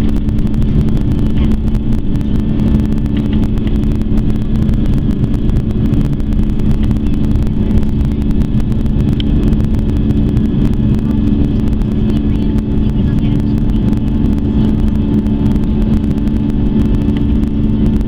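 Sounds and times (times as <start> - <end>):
jet engine cabin drone: 0.0 - 18.0.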